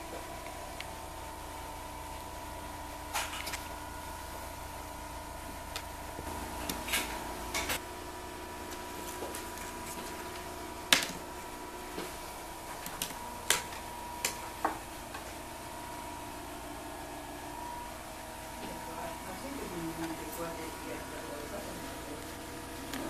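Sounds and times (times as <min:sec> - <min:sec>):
indoor hum: 0:00.0 - 0:23.0.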